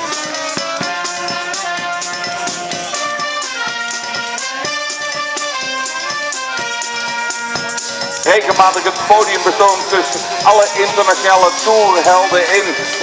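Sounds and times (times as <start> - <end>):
percussion beat: 0.0 - 13.0
saxophones playing melody: 0.0 - 13.0.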